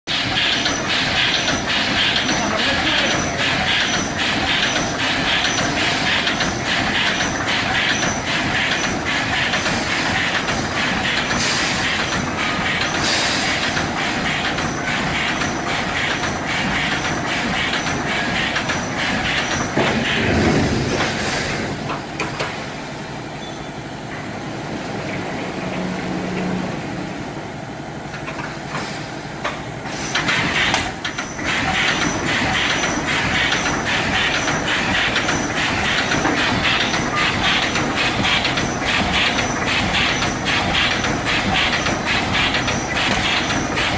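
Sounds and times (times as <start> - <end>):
rhythmic machine clatter: 0.1 - 22.6, 29.4 - 43.9.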